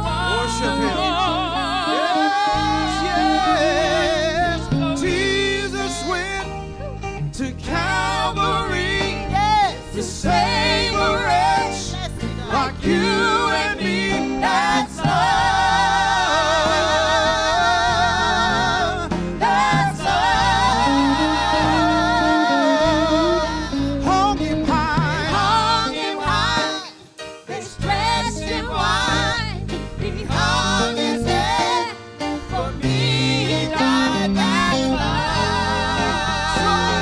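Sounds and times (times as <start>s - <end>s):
band with bass and keys: 0.0s - 37.0s
gospel voices singing: 0.0s - 37.0s.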